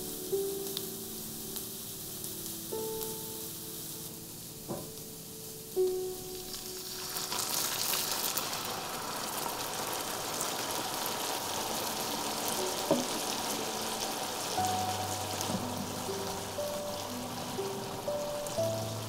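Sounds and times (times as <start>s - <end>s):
broth sizzling in hot pan: 0.0s - 19.0s
soft background music: 0.0s - 19.0s.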